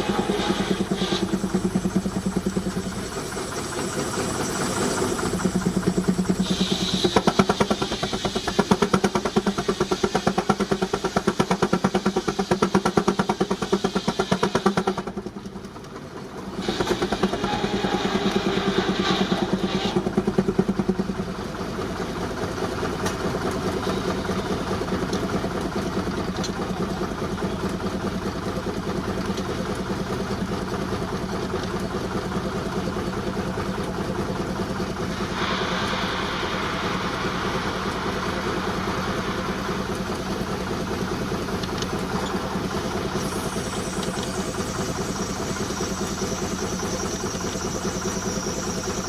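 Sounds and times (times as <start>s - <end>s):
steam engine exhaust beat: 0.0s - 49.0s.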